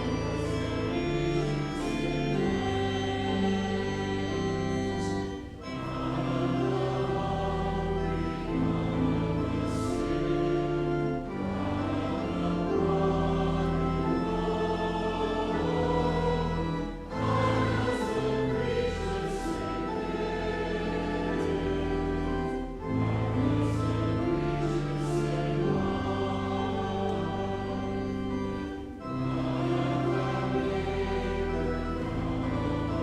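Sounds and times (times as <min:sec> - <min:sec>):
choral singing: 0:00.0 - 0:33.0
slow church music chords: 0:00.0 - 0:33.0.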